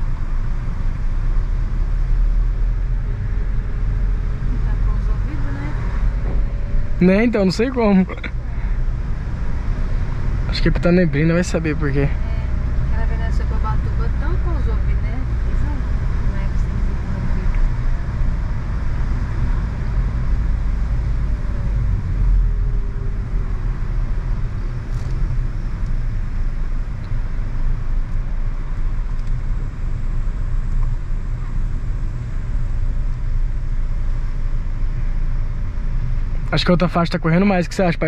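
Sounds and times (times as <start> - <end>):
car road and engine rumble: 0.0 - 38.0.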